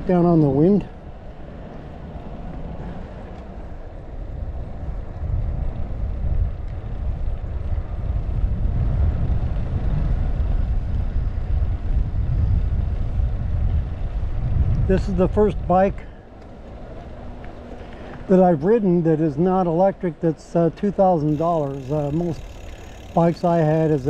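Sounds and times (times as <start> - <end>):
bike tyres rolling on asphalt: 0.0 - 24.0
wind rumbling on microphone: 0.0 - 24.0.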